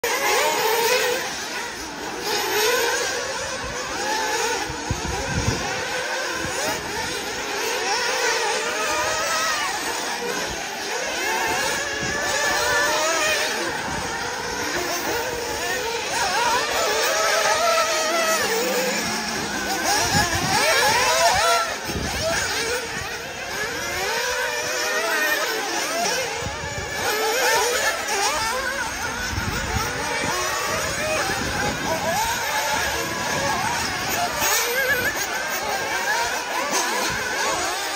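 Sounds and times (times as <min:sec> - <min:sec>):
rc buggy engines buzzing: 0:00.0 - 0:37.9.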